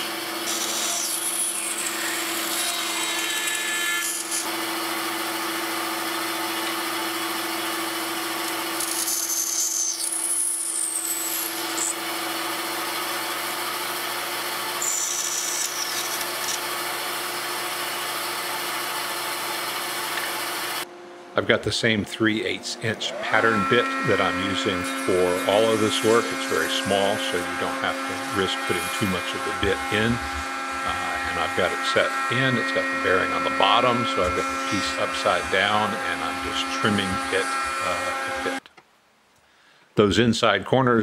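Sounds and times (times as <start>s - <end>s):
saw blade rasping through wood: 0.0s - 4.7s, 5.3s - 20.8s, 23.1s - 38.6s
bandsaw humming: 0.0s - 38.7s.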